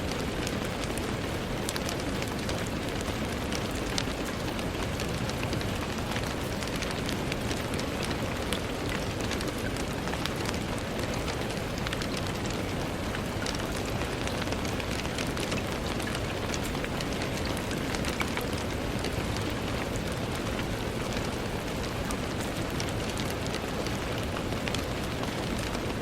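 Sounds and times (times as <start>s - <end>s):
rain falling on a window: 0.0s - 26.0s.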